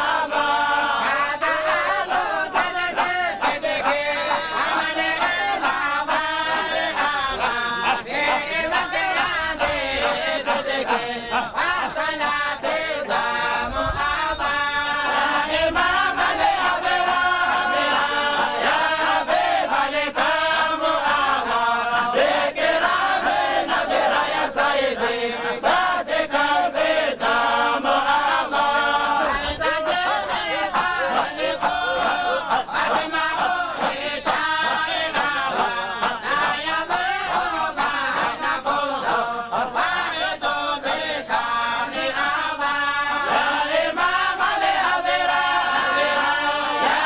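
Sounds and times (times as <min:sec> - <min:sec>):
men chanting in unison: 0:00.0 - 0:47.0.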